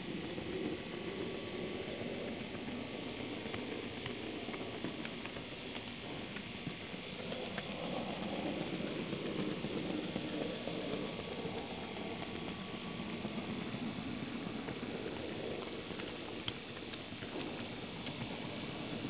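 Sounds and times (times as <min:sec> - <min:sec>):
model train rolling rumble: 0:00.0 - 0:19.0
faint track clicks: 0:00.3 - 0:19.0.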